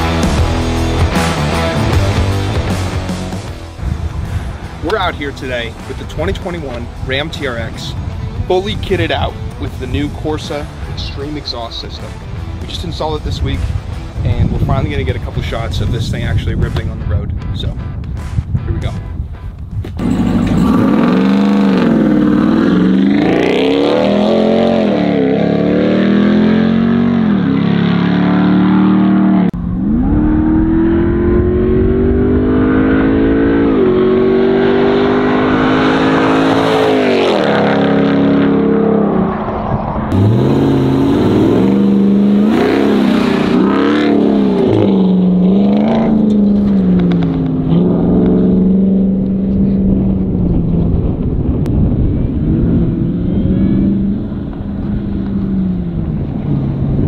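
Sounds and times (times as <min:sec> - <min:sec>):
truck exhaust accelerating: 0:00.0 - 0:17.1, 0:19.4 - 0:57.0.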